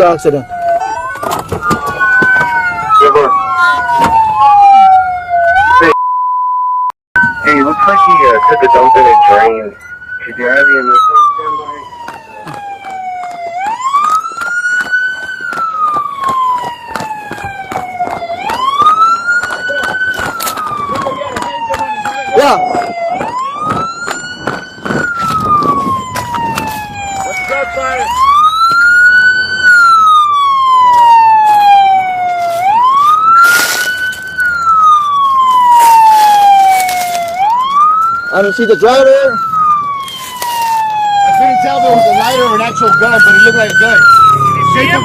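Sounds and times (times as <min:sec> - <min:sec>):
emergency siren wailing: 0:00.0 - 0:06.0, 0:07.2 - 0:45.0.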